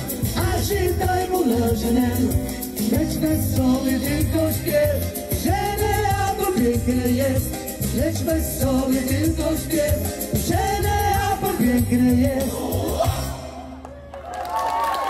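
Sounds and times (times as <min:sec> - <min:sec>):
drums keeping a beat: 0:00.0 - 0:13.5
person singing: 0:00.0 - 0:13.6
bass: 0:00.0 - 0:15.0.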